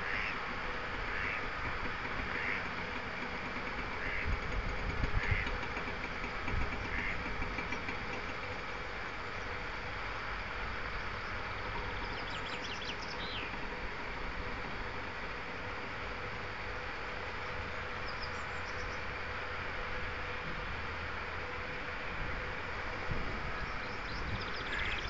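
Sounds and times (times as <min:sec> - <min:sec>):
machinery hum: 0:00.0 - 0:25.0.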